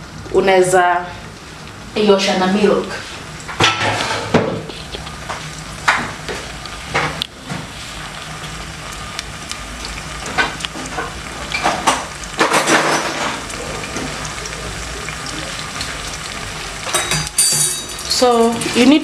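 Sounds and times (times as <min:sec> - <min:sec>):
liver sizzling in hot oil: 0:00.0 - 0:19.0.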